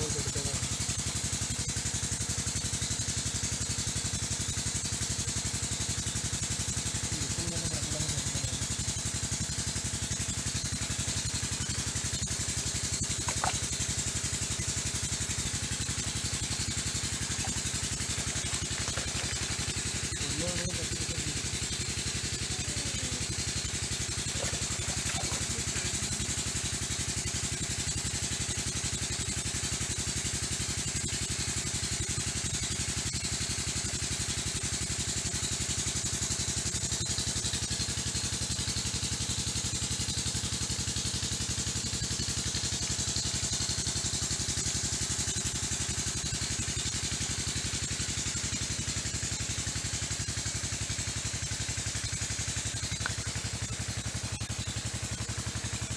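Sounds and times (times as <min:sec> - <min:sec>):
small engine idling: 0:00.0 - 0:55.9.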